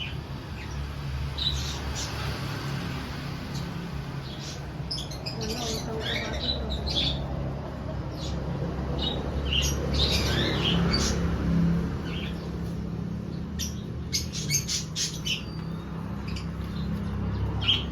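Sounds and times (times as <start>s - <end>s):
birds chirping and squawking: 0.0s - 17.9s.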